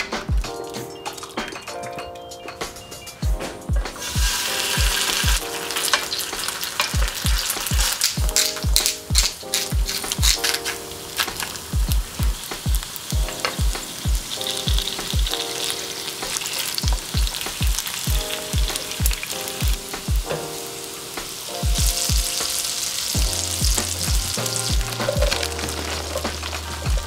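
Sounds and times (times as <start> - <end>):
background music with low beat: 0.0 - 15.5, 16.8 - 20.6, 21.2 - 22.6, 23.2 - 27.0
gnocchi sizzling in oil: 0.6 - 1.8, 4.0 - 27.0.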